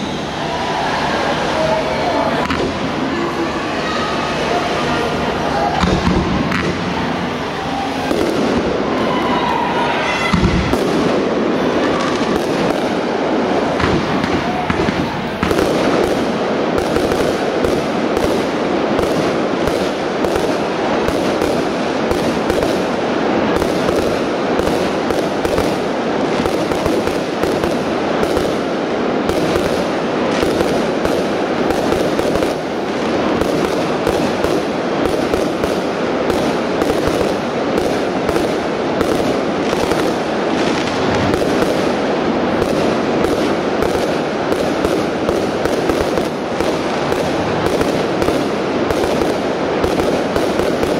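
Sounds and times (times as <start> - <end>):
fireworks bursting and crackling: 0.0 - 50.9.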